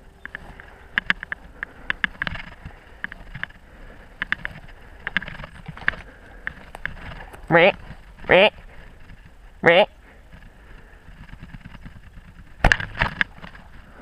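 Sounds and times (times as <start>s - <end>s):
footsteps through dry grass: 0.0s - 14.0s
low rumble of movement: 0.0s - 14.0s.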